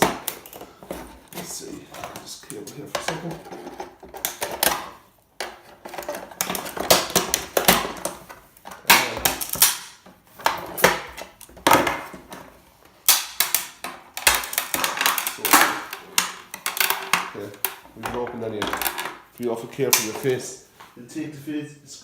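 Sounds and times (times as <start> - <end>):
plastic and metal parts clattering: 0.0 - 20.5.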